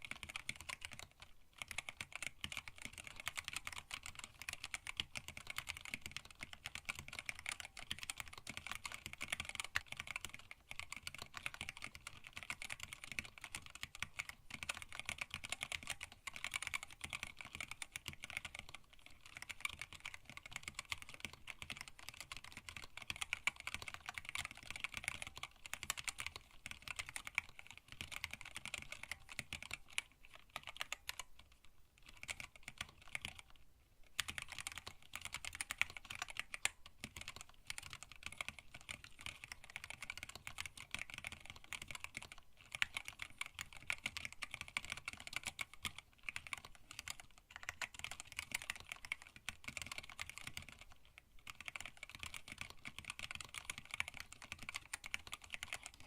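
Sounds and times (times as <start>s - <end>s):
fast mechanical keyboard typing: 0.0s - 56.0s.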